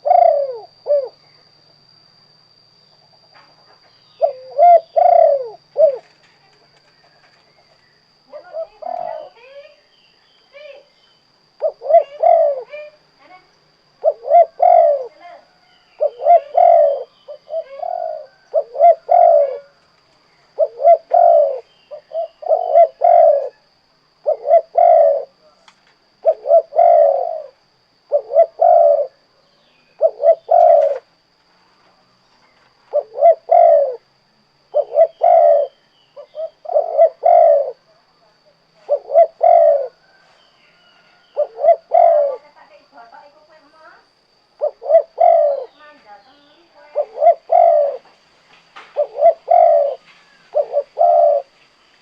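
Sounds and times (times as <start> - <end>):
dove cooing: 0.0 - 9.8, 10.5 - 25.5, 26.1 - 31.1, 32.7 - 48.1, 48.8 - 51.6.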